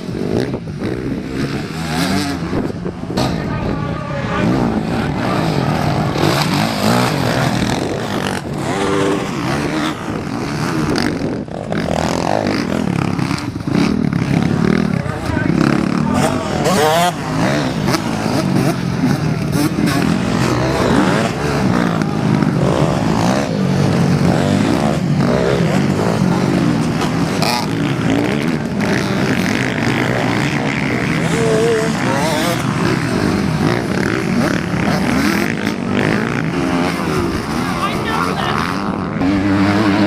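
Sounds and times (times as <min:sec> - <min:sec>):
motocross bikes revving: 0:00.0 - 0:40.0.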